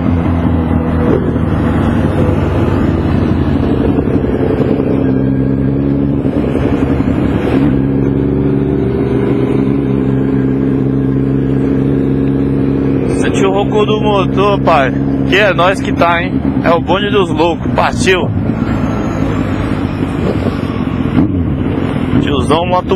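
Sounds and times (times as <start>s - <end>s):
wind rushing: 0.0s - 13.9s, 14.8s - 22.4s
motorcycle engine running: 0.0s - 22.9s
road noise: 0.0s - 22.9s.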